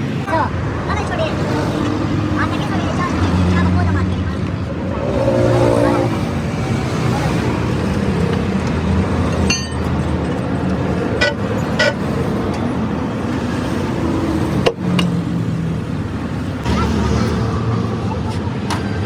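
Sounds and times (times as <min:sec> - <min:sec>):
road traffic engines: 0:00.0 - 0:19.0.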